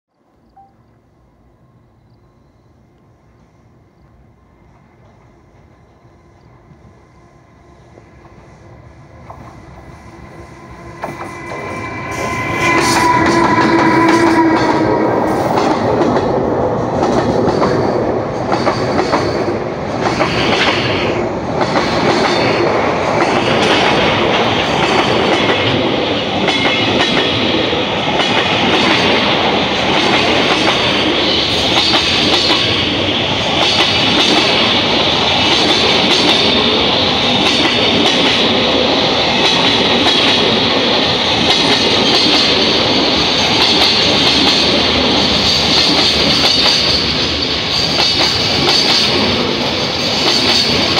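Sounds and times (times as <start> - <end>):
electric locomotive whine: 0.2 - 50.9
train wagons rumbling: 6.6 - 50.9.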